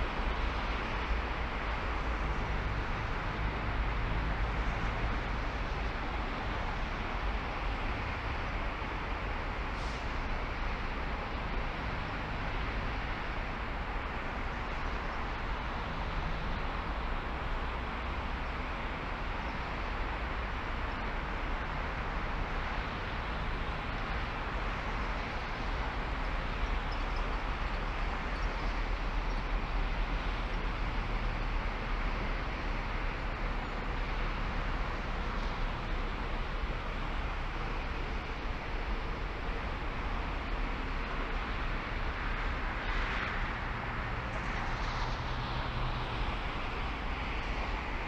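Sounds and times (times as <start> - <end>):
car road and wind noise: 0.0 - 48.0.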